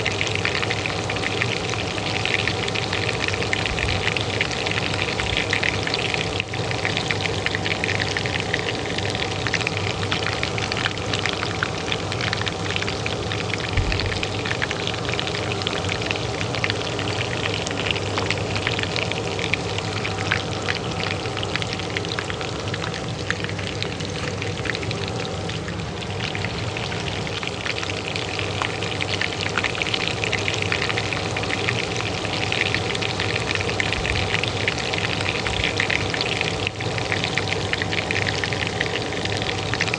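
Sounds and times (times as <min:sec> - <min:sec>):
oil sizzling in a pan: 0:00.0 - 0:39.9
range hood fan humming: 0:00.0 - 0:39.9.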